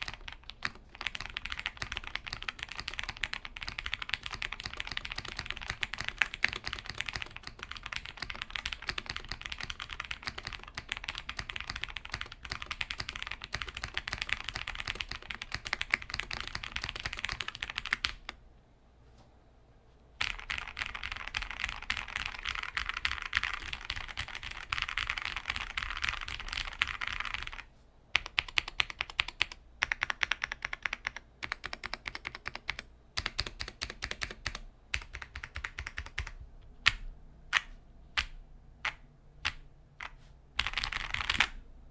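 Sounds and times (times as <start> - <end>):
mechanical keyboard typing: 0.0 - 18.4, 20.2 - 41.6.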